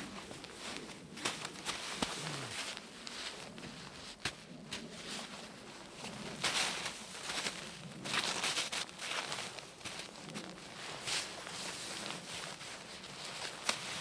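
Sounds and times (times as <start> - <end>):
snow scraping and crunching: 0.0 - 14.0.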